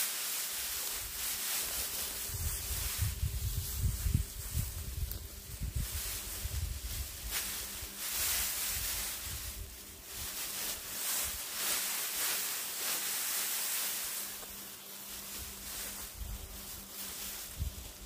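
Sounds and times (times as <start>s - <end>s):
dry straw rustling: 0.0s - 18.0s.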